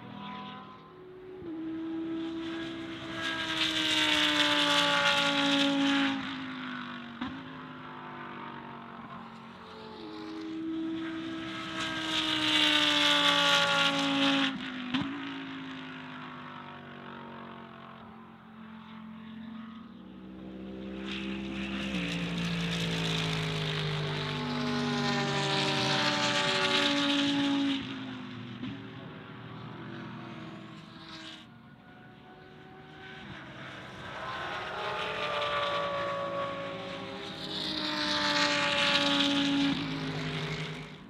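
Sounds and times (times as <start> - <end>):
race cars passing at speed: 0.0 - 41.0.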